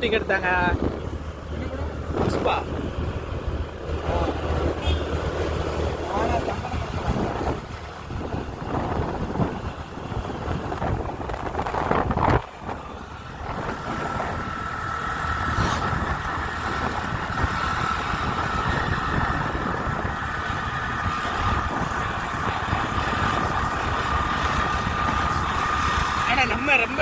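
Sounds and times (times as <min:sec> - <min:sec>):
engine and road rumble: 0:00.0 - 0:27.0
wind noise: 0:00.0 - 0:27.0.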